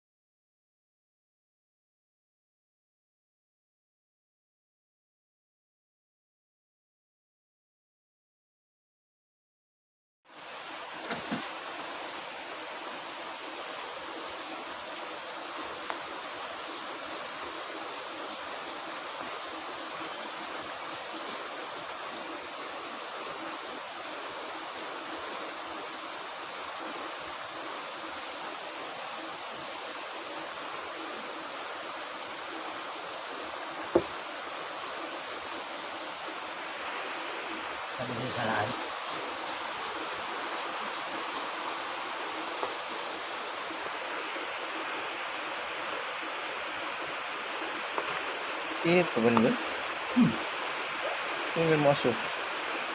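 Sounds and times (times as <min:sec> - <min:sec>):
stream water running: 0:10.3 - 0:52.9.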